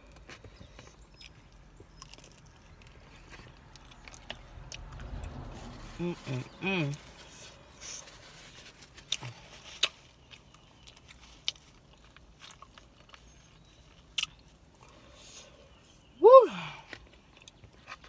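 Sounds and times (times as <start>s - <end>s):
person chewing: 0.0s - 5.3s, 6.0s - 15.8s, 16.8s - 18.0s.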